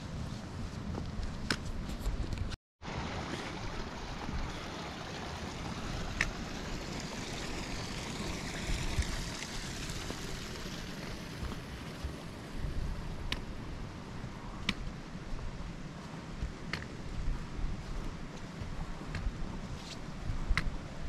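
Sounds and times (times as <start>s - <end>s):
steady rushing outdoor noise: 0.0s - 21.0s.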